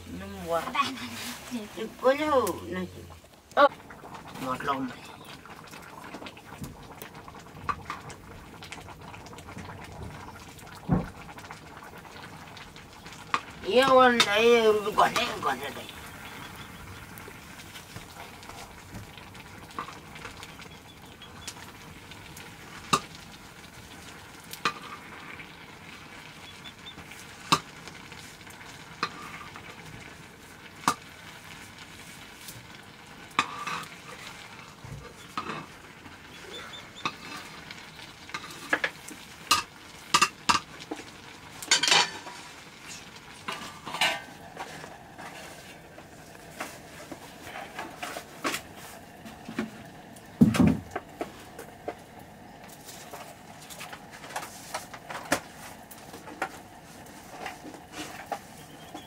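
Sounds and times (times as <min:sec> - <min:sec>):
boiling pot hiss: 0:00.0 - 0:59.0.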